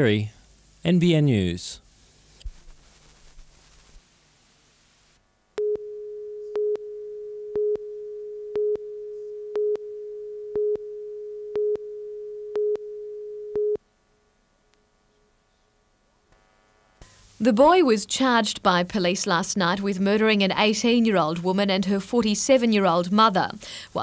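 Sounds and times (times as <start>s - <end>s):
faint tape hiss: 0.0s - 24.0s.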